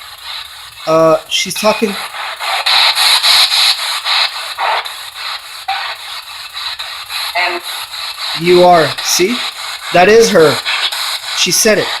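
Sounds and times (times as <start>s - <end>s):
chopped radio static hiss: 0.0s - 12.0s
snatch of radio broadcast: 0.8s - 12.0s.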